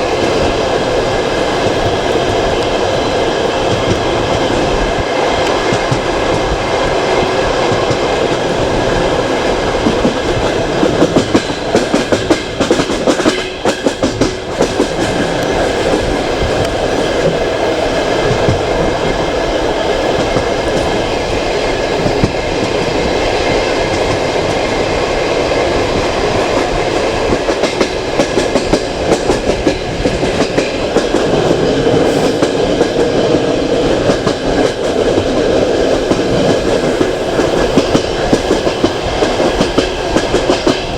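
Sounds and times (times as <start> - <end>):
rapid rail-joint clicks: 0.0 - 40.9
train wheels rushing on rail: 0.0 - 40.9.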